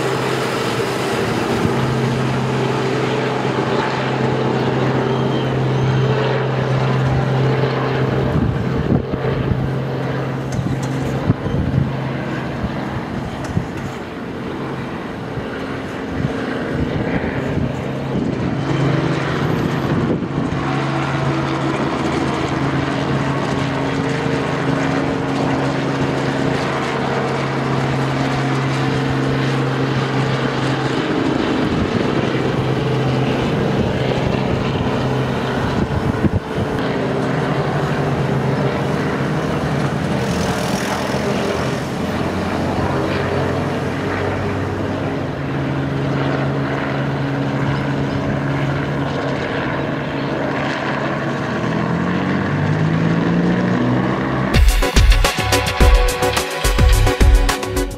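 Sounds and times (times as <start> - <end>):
helicopter engine and rotor drone: 0.0 - 57.9.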